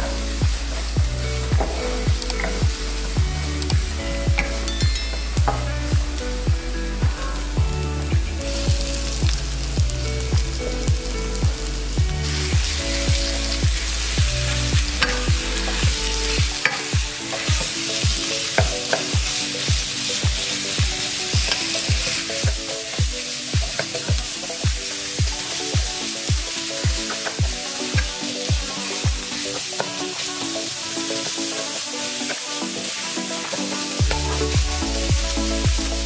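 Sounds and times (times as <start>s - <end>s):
music with kick-drum beat: 0.0s - 29.3s, 34.0s - 36.0s
food sizzling in oil: 0.0s - 36.0s.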